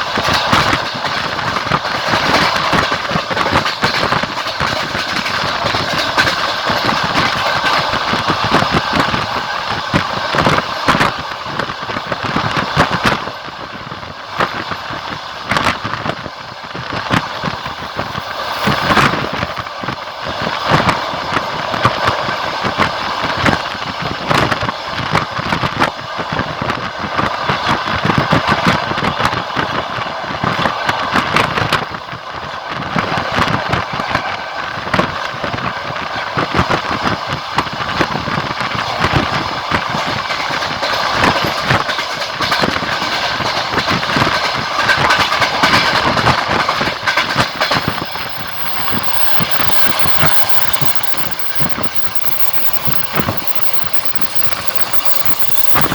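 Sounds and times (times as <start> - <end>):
train wheels clattering on rails: 0.0 - 55.9.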